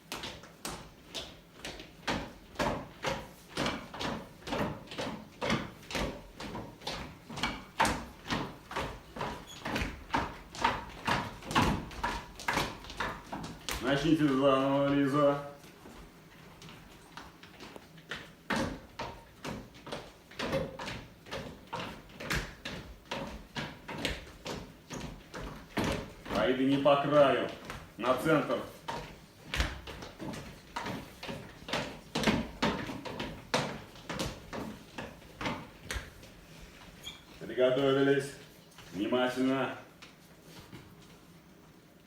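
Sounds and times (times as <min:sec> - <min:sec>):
footsteps thudding: 0:00.0 - 0:37.5.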